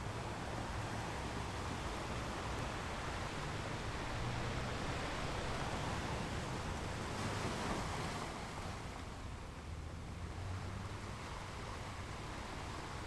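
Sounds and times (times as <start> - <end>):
sea waves on a beach: 0.0 - 13.0.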